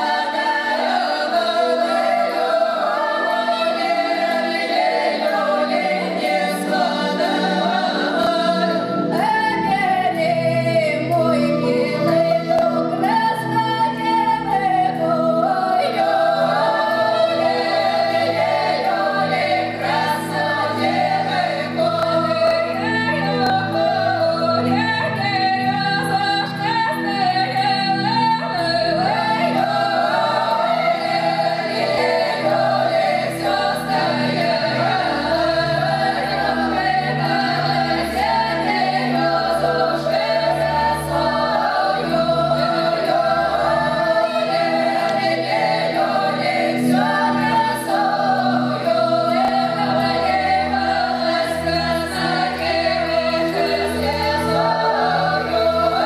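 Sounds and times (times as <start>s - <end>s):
women's choir singing folk song: 0.0s - 56.0s.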